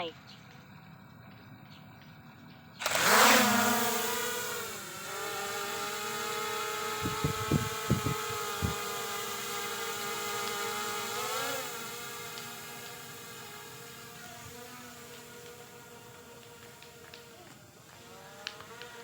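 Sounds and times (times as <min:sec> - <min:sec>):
drone propeller whine: 0:00.0 - 0:19.0.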